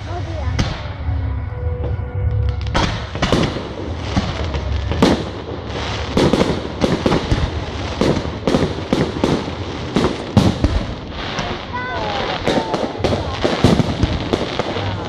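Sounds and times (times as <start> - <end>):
fireworks bursting: 0.0 - 15.0
fireworks crackle and hiss: 2.5 - 15.0.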